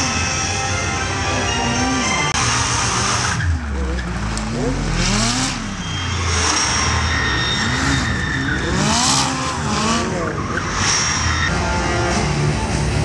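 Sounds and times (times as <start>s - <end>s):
tyres squealing and skidding: 0.0s - 12.8s
sports car engine revving: 1.8s - 13.0s.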